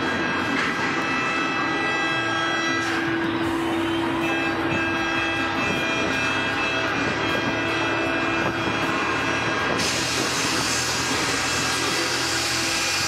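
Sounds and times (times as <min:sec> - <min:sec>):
ship horns: 0:00.0 - 0:13.0.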